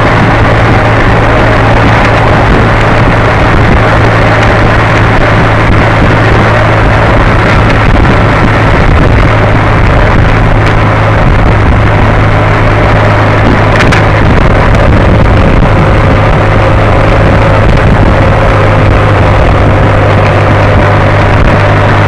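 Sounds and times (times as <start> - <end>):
vehicle engine droning: 0.0 - 22.0
wind and road noise: 0.0 - 22.0.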